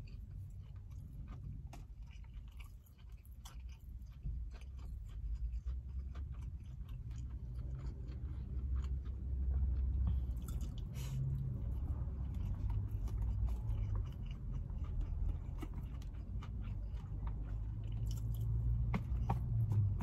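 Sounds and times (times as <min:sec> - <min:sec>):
chewing rice with clicks: 0:00.0 - 0:20.0.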